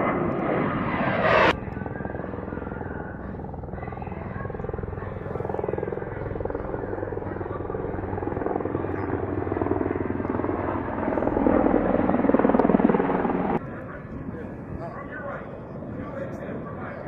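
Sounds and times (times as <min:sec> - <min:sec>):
helicopter engine drone: 0:00.0 - 0:17.0
helicopter rotor beating: 0:00.0 - 0:17.0.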